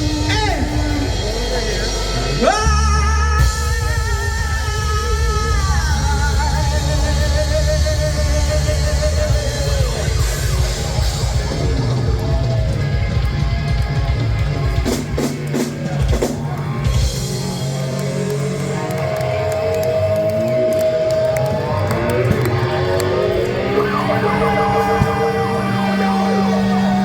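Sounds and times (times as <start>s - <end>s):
drum kit: 0.0s - 27.0s
electric guitar gliding notes: 0.0s - 27.0s
rock music: 0.0s - 27.0s.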